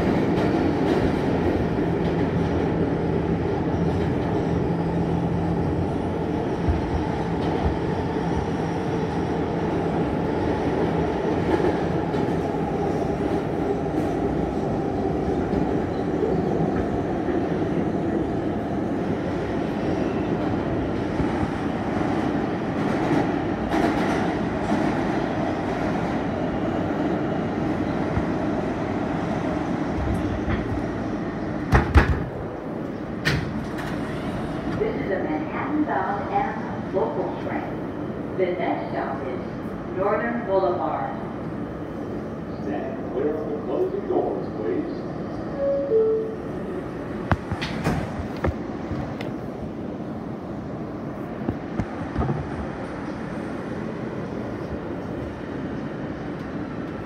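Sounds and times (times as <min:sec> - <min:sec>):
train wheels rumbling on rails: 0:00.0 - 0:37.7, 0:46.5 - 0:57.0.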